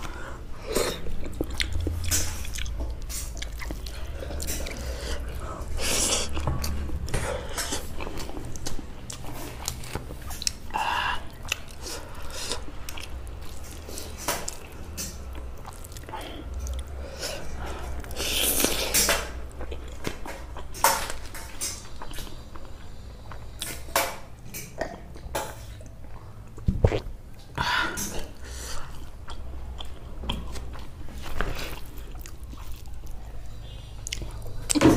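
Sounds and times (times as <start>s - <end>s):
chewing and mouth sounds: 0.0s - 34.8s.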